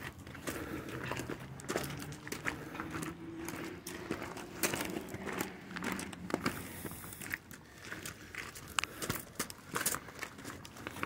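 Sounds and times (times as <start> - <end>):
footsteps crunching on gravel: 0.0 - 11.0.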